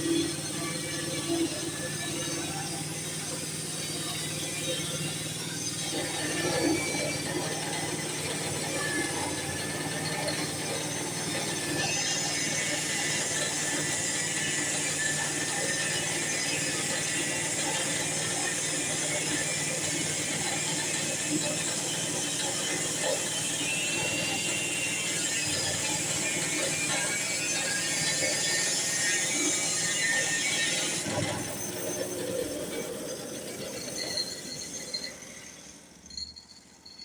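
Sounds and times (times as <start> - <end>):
sawmill blade cutting log: 0.0 - 35.1.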